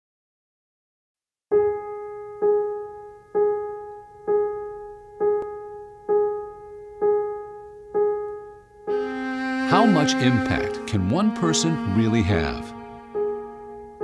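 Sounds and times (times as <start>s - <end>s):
repeated piano note: 1.5s - 14.0s.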